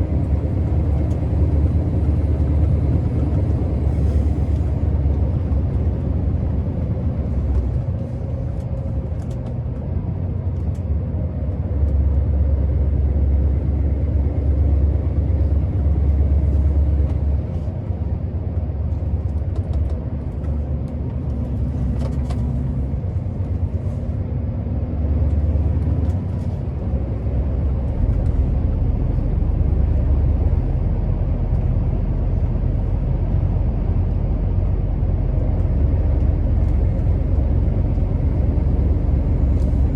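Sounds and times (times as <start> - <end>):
diesel truck engine rumble: 0.0 - 39.9.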